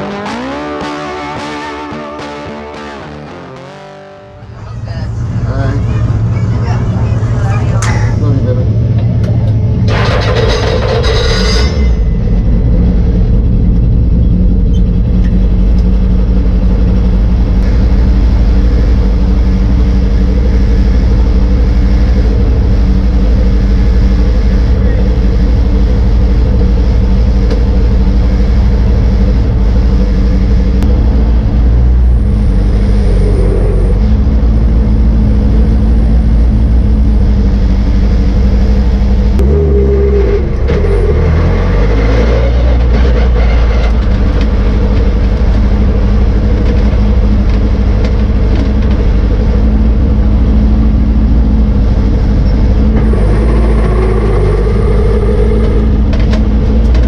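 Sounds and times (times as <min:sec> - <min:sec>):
racing car engine running hard: 0:00.0 - 0:57.0
road and wind noise: 0:00.0 - 0:57.0.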